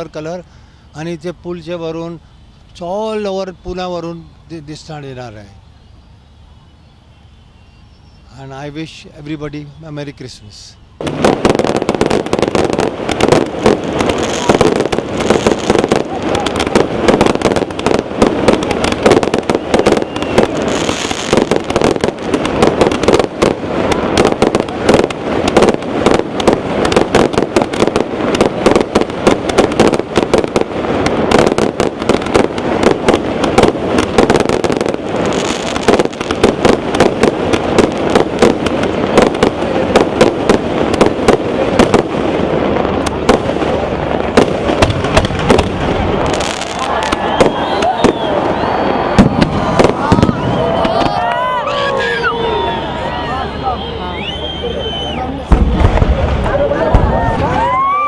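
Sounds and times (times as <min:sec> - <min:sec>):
crackling fireworks stars: 0:00.0 - 0:07.6, 0:08.2 - 0:58.0
fireworks bursting with bangs: 0:11.0 - 0:58.0.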